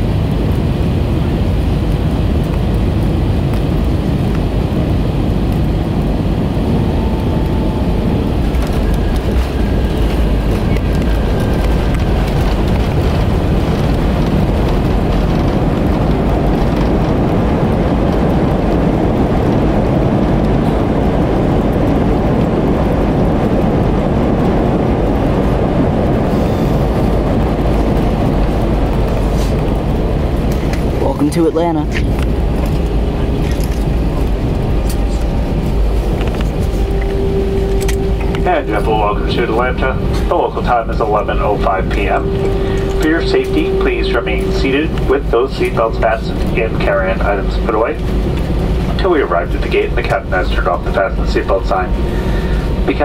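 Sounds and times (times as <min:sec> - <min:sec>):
jet engine and wheel rumble: 0:00.0 - 0:53.0.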